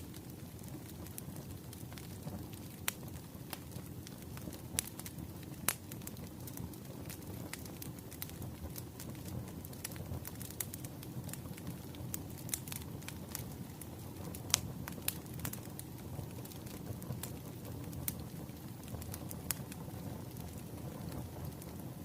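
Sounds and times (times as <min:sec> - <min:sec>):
fire crackling: 0:00.0 - 0:22.0
fire pops and snaps: 0:00.0 - 0:22.0
flames rumbling: 0:00.0 - 0:22.0.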